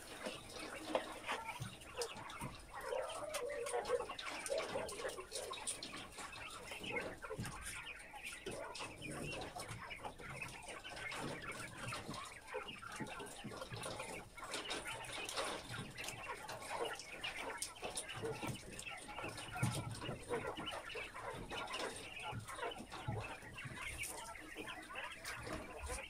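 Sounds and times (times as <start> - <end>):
quail chirping and calling: 0.0 - 26.0.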